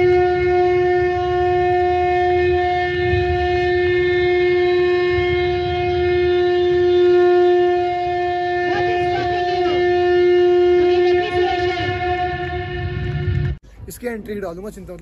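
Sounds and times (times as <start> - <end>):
conch shell blown: 0.0 - 13.6
low rumble: 0.0 - 13.9.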